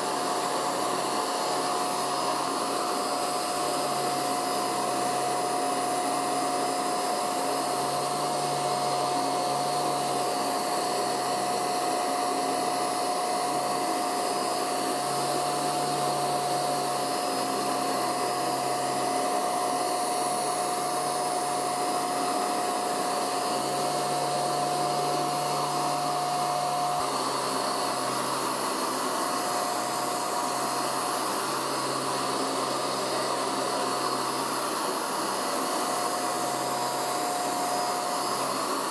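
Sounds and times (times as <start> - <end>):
handheld vacuum cleaner running: 0.0 - 38.9.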